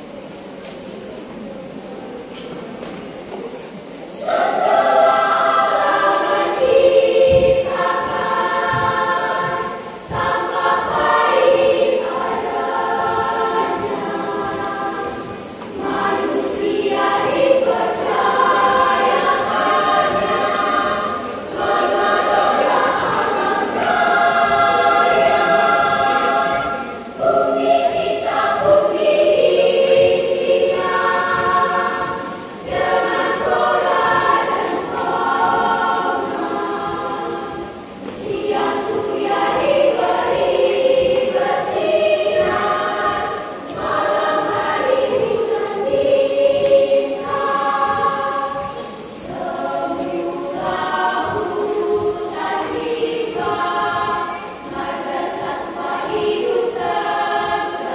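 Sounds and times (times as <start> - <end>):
children's choir singing: 0.0 - 57.9.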